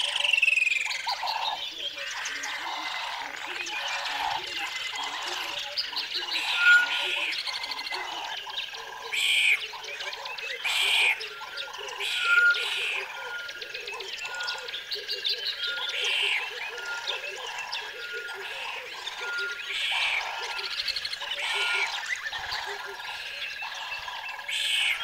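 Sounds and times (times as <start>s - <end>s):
birds chirping and calling: 0.0s - 25.0s
harsh bird calls: 0.0s - 25.0s.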